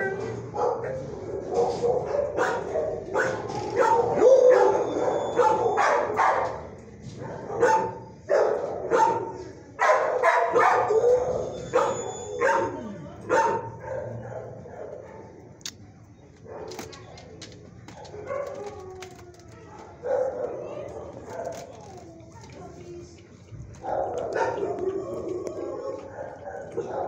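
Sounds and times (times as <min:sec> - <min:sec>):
dogs barking: 0:00.4 - 0:15.6, 0:17.9 - 0:19.1, 0:19.8 - 0:22.0, 0:23.7 - 0:27.0.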